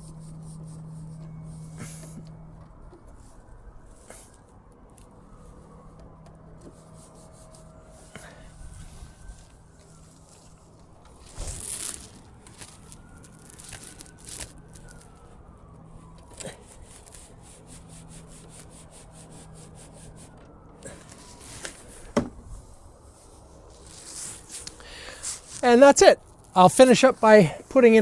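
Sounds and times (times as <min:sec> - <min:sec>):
scraping rub: 0:00.0 - 0:22.2, 0:23.2 - 0:25.8.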